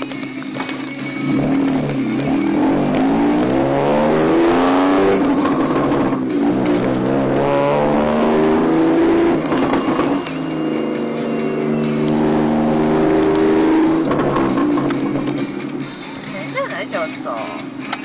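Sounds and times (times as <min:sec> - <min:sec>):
car exhaust accelerating: 0:01.0 - 0:16.3.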